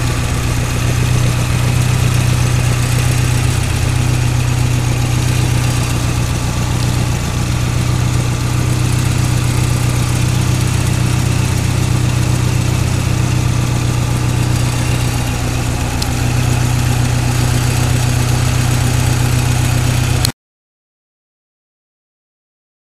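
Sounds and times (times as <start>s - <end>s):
car engine idling: 0.0s - 20.3s.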